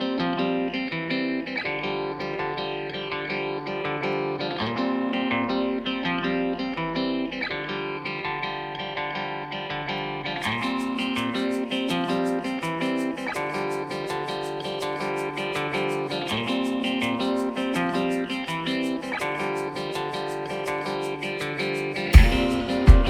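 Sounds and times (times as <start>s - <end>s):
plucked guitar background music: 0.0s - 23.0s.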